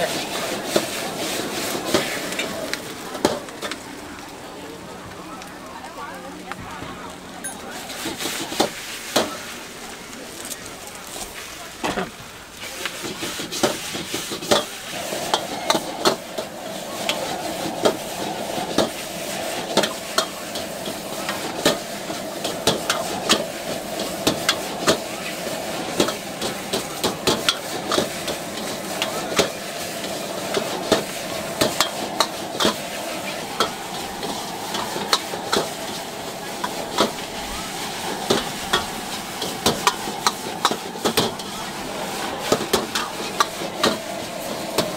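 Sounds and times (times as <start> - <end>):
noodles sizzling in a wok: 0.0 - 4.9, 7.7 - 44.9.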